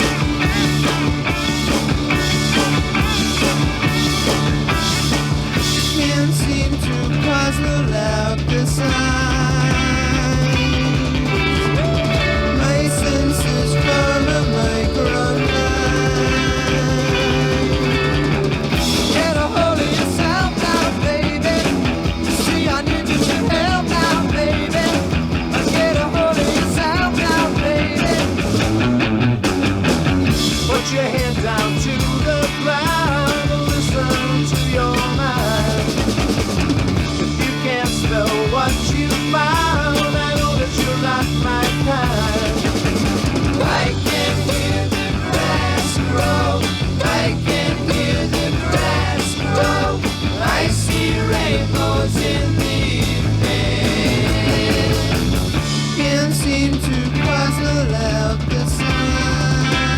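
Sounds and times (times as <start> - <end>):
psychedelic rock band playing: 0.0 - 59.9.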